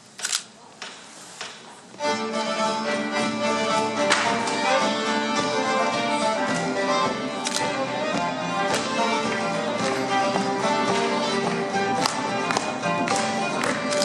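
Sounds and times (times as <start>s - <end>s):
bowed string instrument: 2.0s - 14.0s
traditional ensemble playing: 2.0s - 14.0s.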